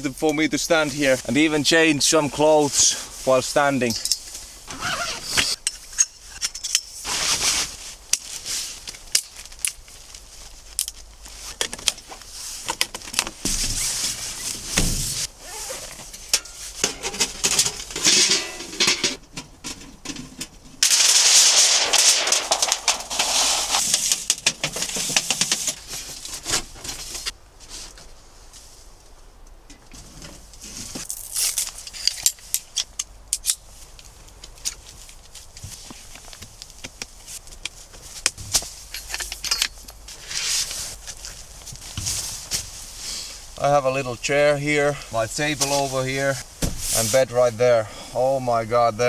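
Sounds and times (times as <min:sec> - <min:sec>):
camping gear rustling and clattering: 0:00.3 - 0:48.2.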